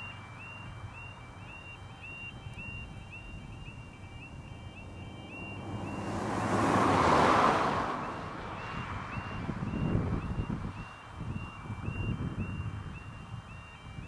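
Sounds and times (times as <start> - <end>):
car passing: 0.0 - 14.0
level crossing alarm: 0.0 - 14.0.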